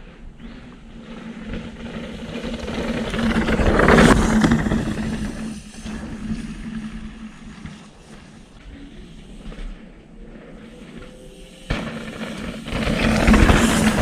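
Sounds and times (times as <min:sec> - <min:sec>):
bike tyres crunching on dirt: 0:00.0 - 0:14.0.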